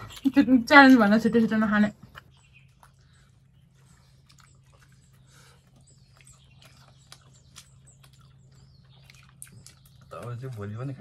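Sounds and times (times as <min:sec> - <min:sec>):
steady low hum: 0:00.0 - 0:11.0
faint chewing and mouth clicks: 0:01.9 - 0:11.0.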